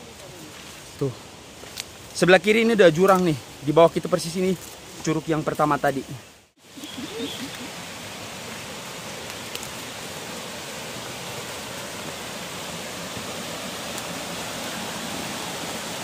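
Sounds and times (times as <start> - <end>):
stream spilling over cascades: 0.0 - 16.0.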